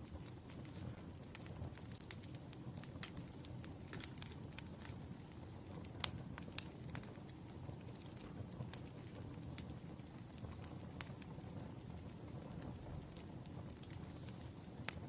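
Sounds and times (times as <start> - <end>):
low hiss of burning logs: 0.0 - 15.0
wood fire crackling: 0.0 - 15.0.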